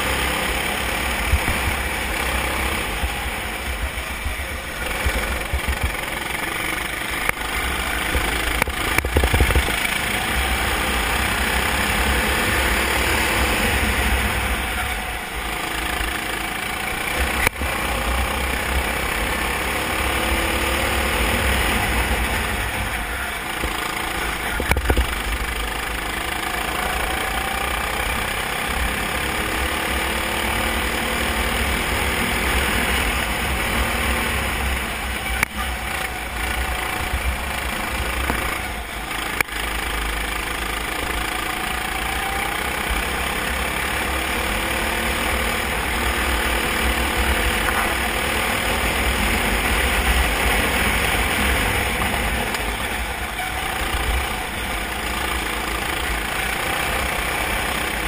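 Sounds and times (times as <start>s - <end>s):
kart engine revving: 0.0s - 58.0s
rush of noise: 0.0s - 58.0s.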